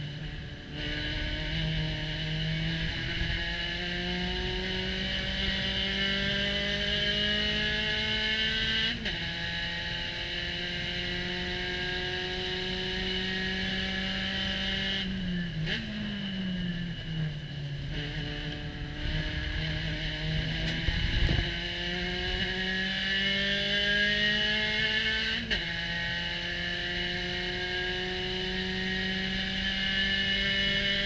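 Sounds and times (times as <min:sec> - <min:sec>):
race car engine revving: 0:00.0 - 0:17.0, 0:17.7 - 0:31.0.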